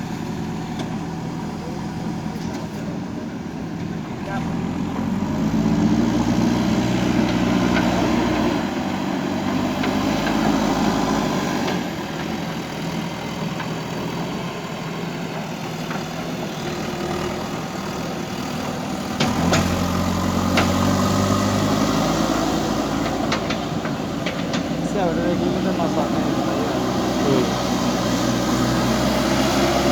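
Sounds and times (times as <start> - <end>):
diesel engine working under load: 0.0 - 29.9.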